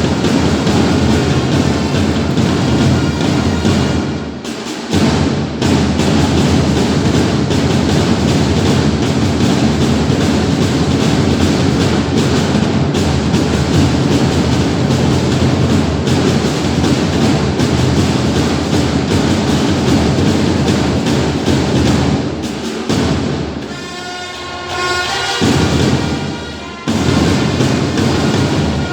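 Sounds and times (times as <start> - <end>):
loud music with percussive beat: 0.0 - 28.9.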